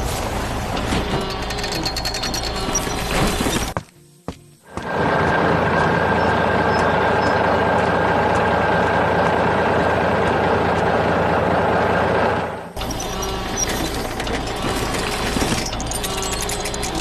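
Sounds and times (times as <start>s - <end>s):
heavy vehicle engine running: 0.0s - 3.8s, 4.7s - 17.0s.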